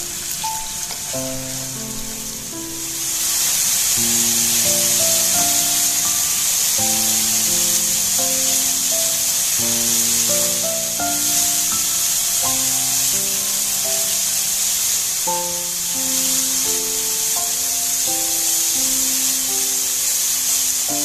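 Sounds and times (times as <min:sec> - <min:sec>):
background music with held notes: 0:00.0 - 0:21.0
chili paste sizzling in oil: 0:00.0 - 0:21.0.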